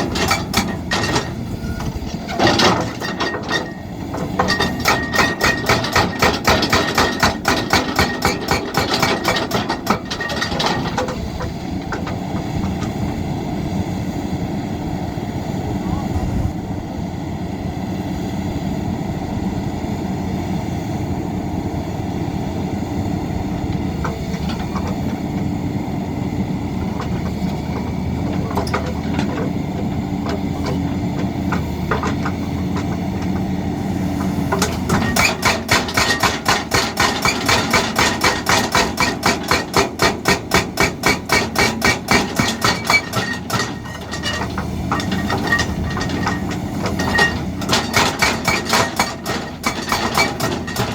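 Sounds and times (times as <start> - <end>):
excavator engine running: 0.0 - 50.9.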